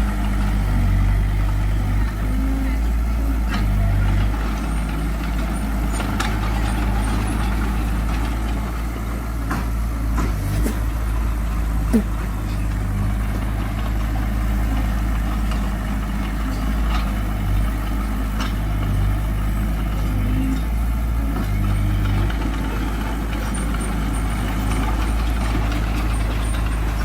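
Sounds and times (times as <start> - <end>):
heavy diesel engine idling: 0.0 - 27.0.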